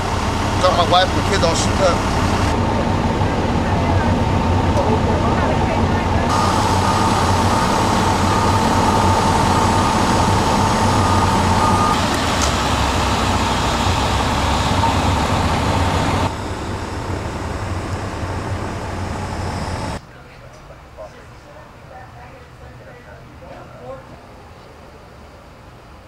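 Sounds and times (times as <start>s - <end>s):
ambulance engine idling: 0.0s - 26.0s
constant high whine: 0.0s - 26.0s.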